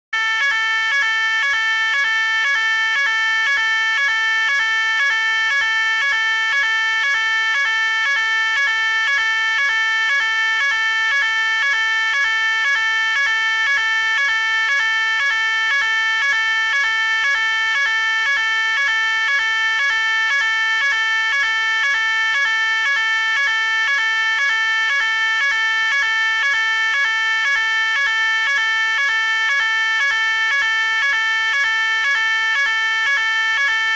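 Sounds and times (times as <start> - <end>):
pulsing fire alarm tone: 0.2 - 33.9.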